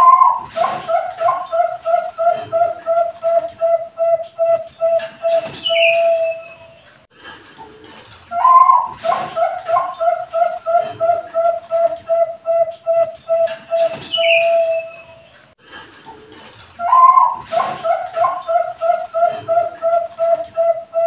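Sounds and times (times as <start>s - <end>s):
dove cooing: 0.0s - 6.8s, 8.3s - 15.2s, 16.8s - 21.0s
high falling chirp: 0.0s - 6.9s, 8.3s - 15.3s, 16.8s - 21.0s.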